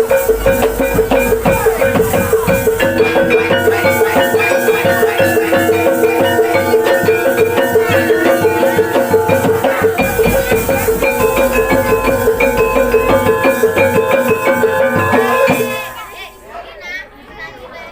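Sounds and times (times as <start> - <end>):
drums at a fast beat: 0.0 - 16.5
metallophones ringing melody: 0.0 - 16.8.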